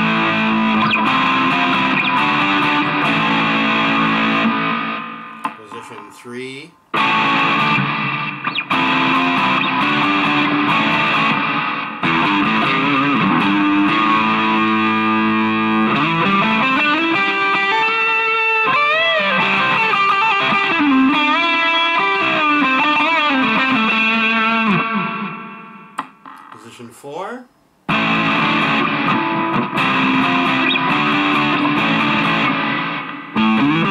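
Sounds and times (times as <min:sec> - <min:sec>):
overdriven electric guitar: 0:00.0 - 0:06.2, 0:06.9 - 0:26.6, 0:27.9 - 0:33.9.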